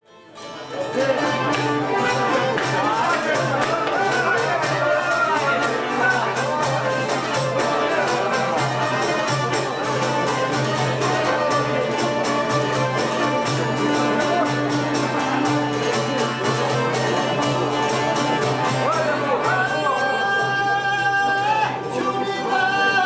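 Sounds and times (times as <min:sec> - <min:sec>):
folk band playing quick beat: 0:00.2 - 0:23.0
high melody with sliding notes: 0:00.4 - 0:22.5.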